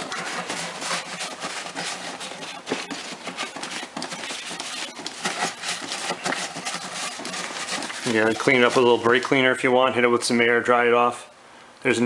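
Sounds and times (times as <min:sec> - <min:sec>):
cloth rag rubbing plastic: 0:00.0 - 0:09.9.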